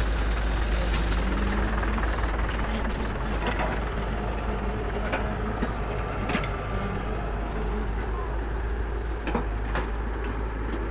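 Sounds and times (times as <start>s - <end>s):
diesel engines running: 0.0s - 10.9s.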